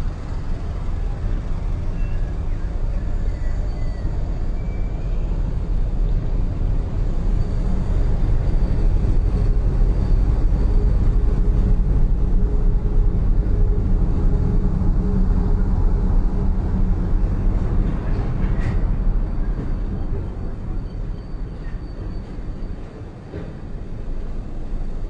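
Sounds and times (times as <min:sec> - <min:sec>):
heavy vehicle engine rumble: 0:00.0 - 0:25.0.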